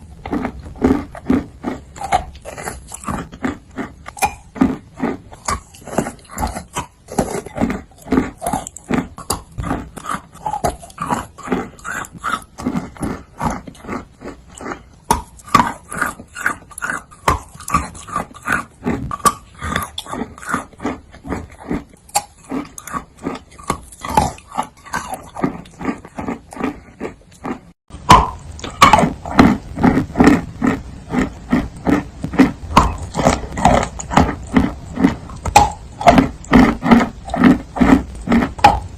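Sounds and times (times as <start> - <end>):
chewing and crunching chalk: 0.0 - 38.9.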